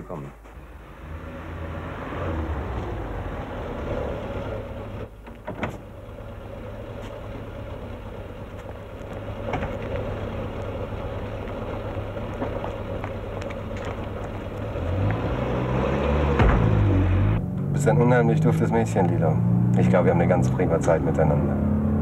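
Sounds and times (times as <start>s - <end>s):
car engine idling: 2.5s - 21.8s.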